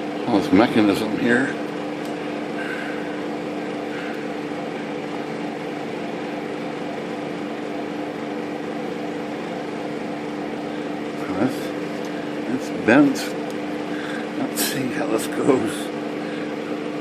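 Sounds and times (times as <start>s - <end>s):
machine hum with low tone: 0.0s - 17.0s.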